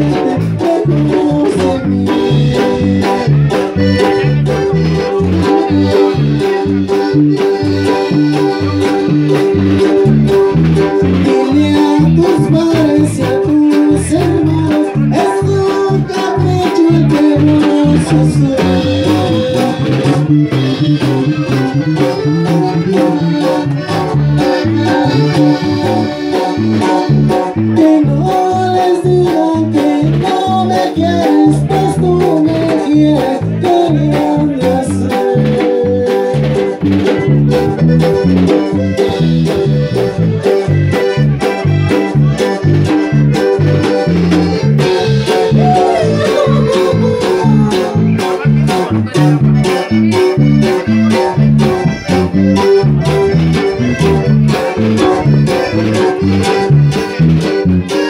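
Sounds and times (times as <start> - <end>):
live band playing dance music: 0.0 - 58.0
person singing: 0.0 - 58.0.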